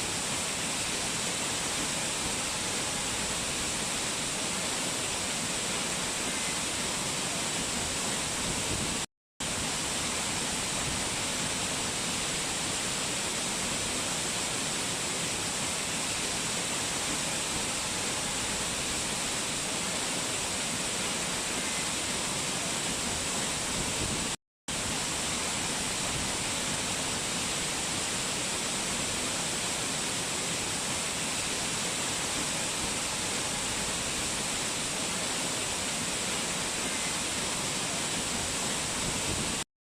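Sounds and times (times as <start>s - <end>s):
waterfall rushing: 0.0s - 39.6s.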